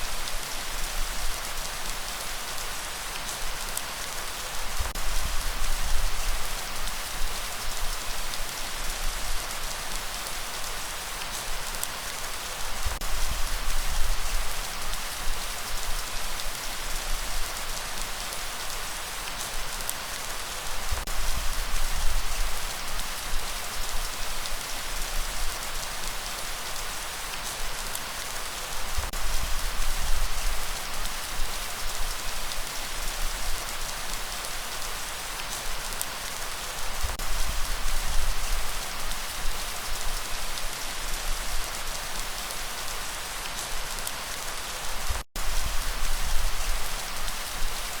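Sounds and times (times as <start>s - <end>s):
light rain falling: 0.0s - 48.0s.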